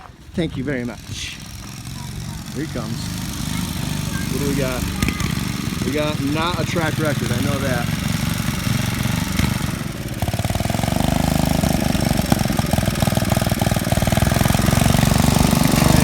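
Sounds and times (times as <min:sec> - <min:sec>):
go-kart engine running: 0:00.0 - 0:16.0.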